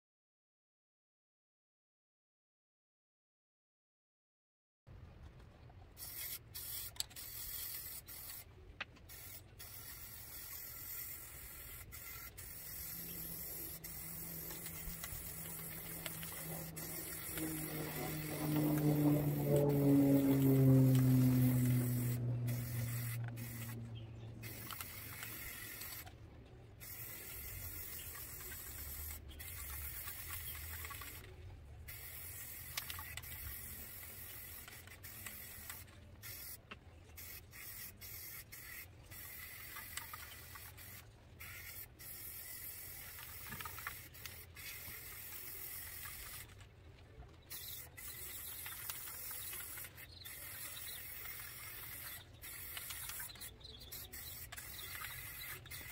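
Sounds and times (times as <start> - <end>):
spray paint can hissing: 6.0 - 26.1, 26.8 - 31.3, 31.9 - 46.6, 47.5 - 55.9.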